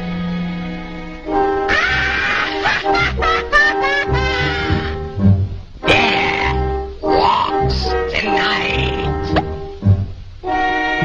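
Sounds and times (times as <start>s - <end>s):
orchestral cartoon music: 0.0s - 11.0s.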